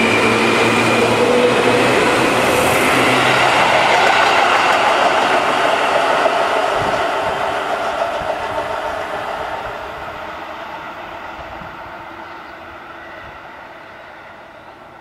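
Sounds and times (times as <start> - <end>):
electric train running on track: 0.0 - 15.0.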